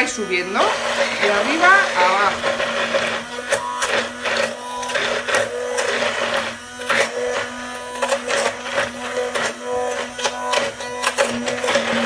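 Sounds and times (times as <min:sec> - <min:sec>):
hand blender motor humming: 0:00.0 - 0:12.0
blender clicks and splashes: 0:00.6 - 0:12.0.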